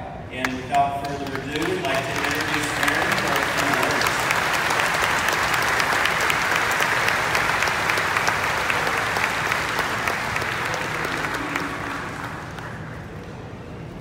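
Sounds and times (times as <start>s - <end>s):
crowd applauding: 0.4s - 13.5s.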